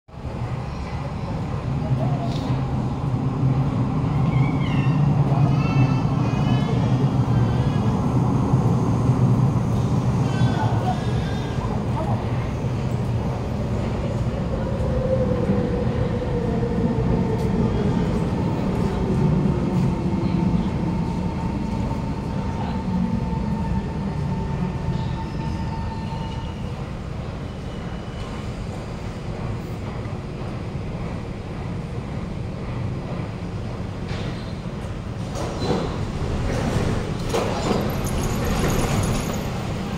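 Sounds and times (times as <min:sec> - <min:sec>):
metro train rumbling: 0:00.1 - 0:39.9.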